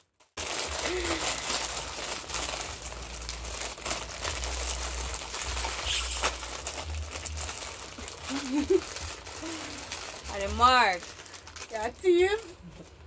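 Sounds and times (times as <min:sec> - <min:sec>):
plastic packet crinkling: 0:00.0 - 0:13.0.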